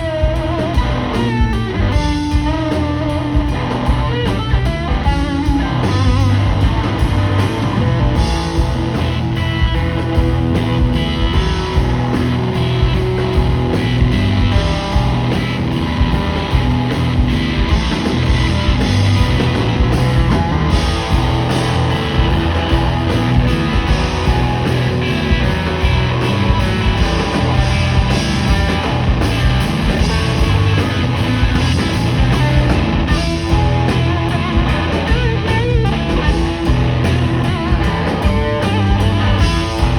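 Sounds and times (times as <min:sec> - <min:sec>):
electric guitar: 0:00.0 - 0:39.9
live rock band playing: 0:00.0 - 0:39.9.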